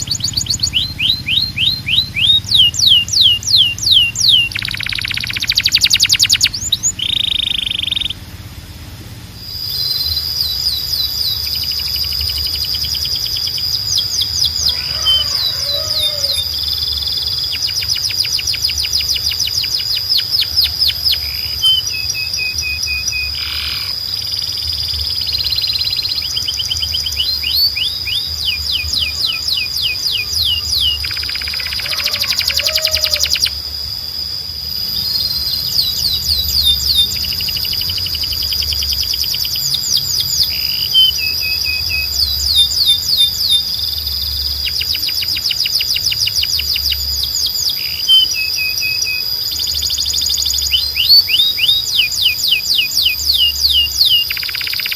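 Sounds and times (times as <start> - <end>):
canary singing: 0.0 - 54.9.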